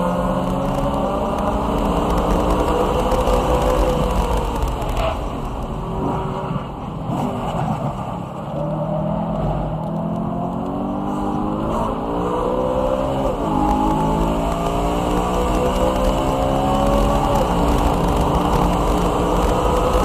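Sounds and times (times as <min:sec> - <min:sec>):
car engine revving: 0:00.0 - 0:07.6, 0:08.4 - 0:20.0.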